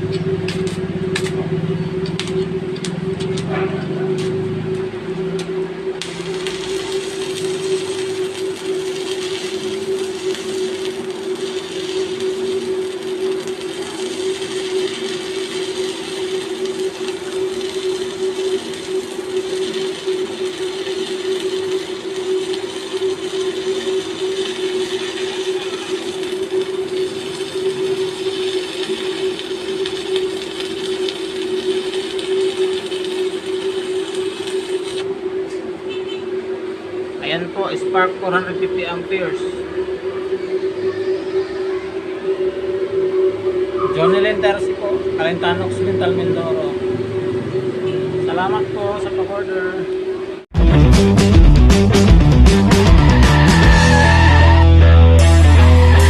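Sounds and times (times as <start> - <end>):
welding arc crackling: 0.0 - 40.8, 42.5 - 56.0
welding machine hum: 0.0 - 40.8, 42.5 - 56.0.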